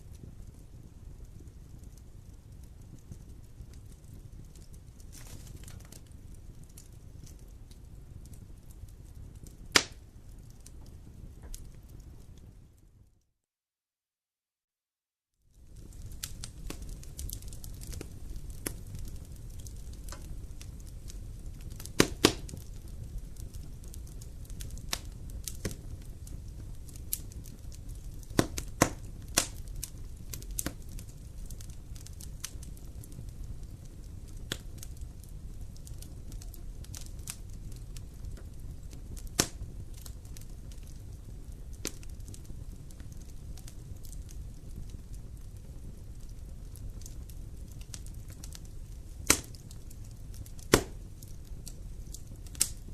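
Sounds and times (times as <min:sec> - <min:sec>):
sharp fire pops: 0:00.0 - 0:12.6, 0:15.6 - 0:52.9
campfire crackling: 0:00.0 - 0:13.0, 0:15.5 - 0:52.9.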